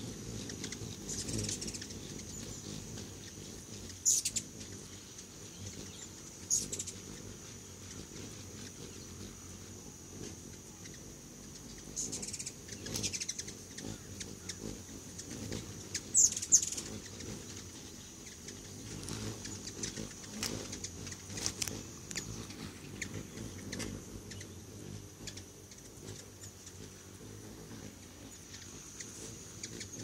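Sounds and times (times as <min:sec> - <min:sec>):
hummingbirds chirping: 0:00.0 - 0:30.0.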